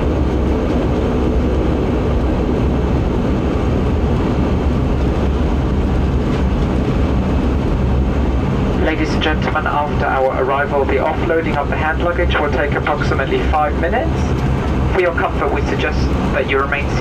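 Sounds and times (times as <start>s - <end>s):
turboprop engine droning: 0.0s - 17.0s.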